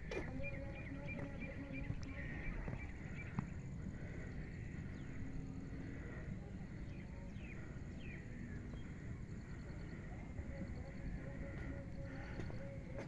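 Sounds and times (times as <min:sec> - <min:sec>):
birds calling: 0:00.0 - 0:13.0
steady low rumble: 0:00.0 - 0:13.0.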